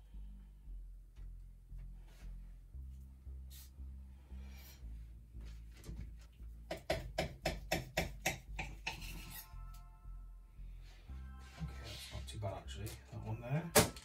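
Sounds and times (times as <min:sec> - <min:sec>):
background music with soft beat: 0:00.0 - 0:14.0.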